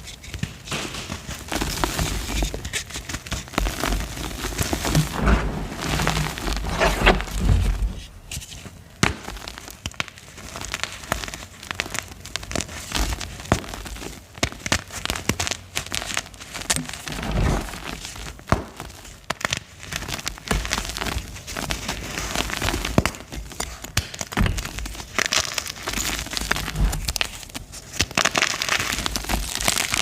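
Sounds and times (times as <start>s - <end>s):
chalk crunching and crumbling: 0.0s - 30.0s.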